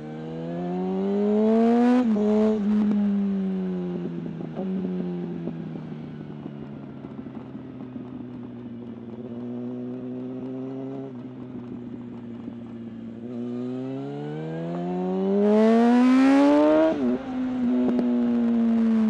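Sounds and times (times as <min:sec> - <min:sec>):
motorcycle engine revving: 0:00.0 - 0:05.8, 0:07.1 - 0:19.0.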